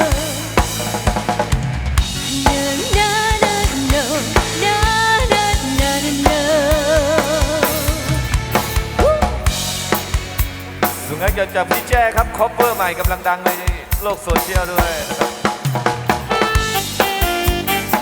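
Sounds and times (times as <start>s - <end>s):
sliding lead melody with vibrato: 0.0s - 13.1s, 16.1s - 18.0s
drum kit beat: 0.0s - 18.0s.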